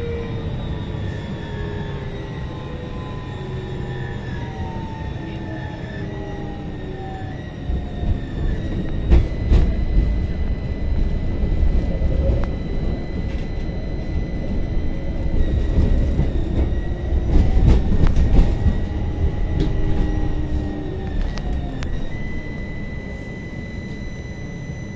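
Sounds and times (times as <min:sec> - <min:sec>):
tram motor whine: 0:00.0 - 0:24.9
wheels rumbling on rails: 0:00.0 - 0:24.9.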